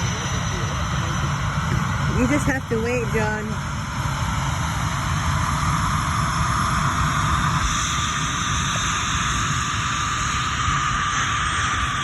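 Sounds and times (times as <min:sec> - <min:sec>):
jet airliner taking off: 0:00.0 - 0:12.0.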